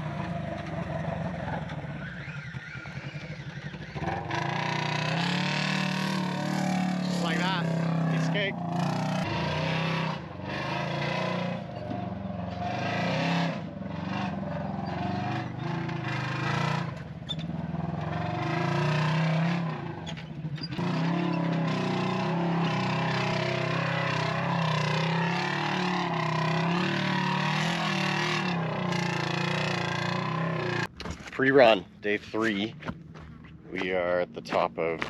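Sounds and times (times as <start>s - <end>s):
vehicle engine revving: 0.0s - 30.9s.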